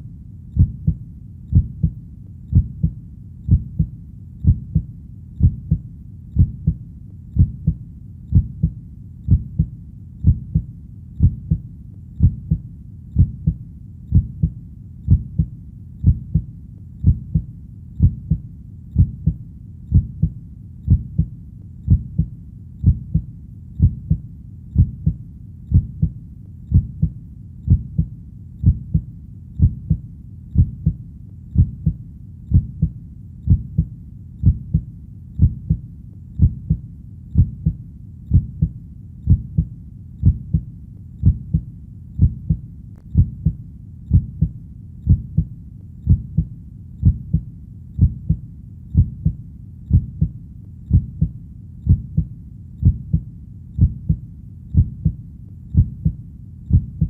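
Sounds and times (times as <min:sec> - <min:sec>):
faint low rumble: 0:00.0 - 0:57.0
heartbeat thumps: 0:00.6 - 0:57.0.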